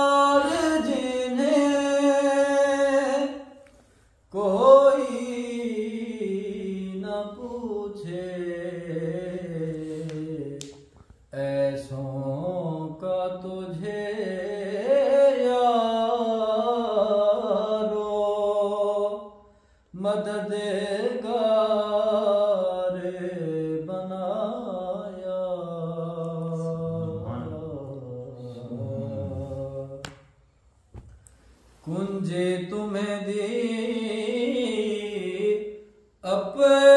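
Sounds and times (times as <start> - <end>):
man singing unaccompanied: 0.0 - 3.6, 4.3 - 10.6, 11.3 - 30.0, 31.8 - 36.9.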